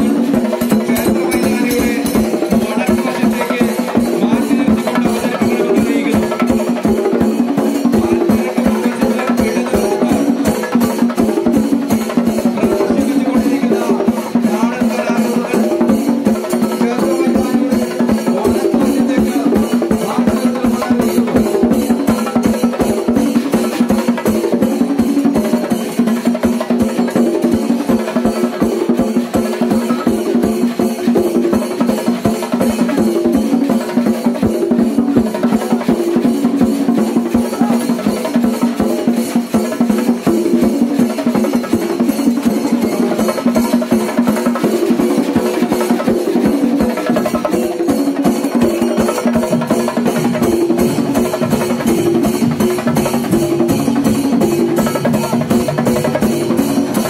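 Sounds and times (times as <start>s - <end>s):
fast live drumming: 0.0s - 57.0s.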